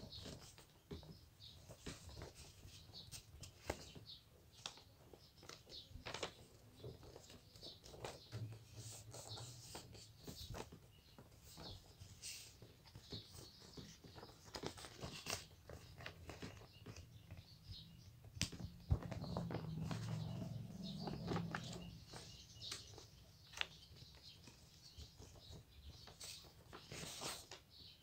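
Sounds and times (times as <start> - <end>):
paper rustling and crinkling: 0.1 - 17.5, 18.4 - 27.7
small taps and crackles: 0.1 - 27.7.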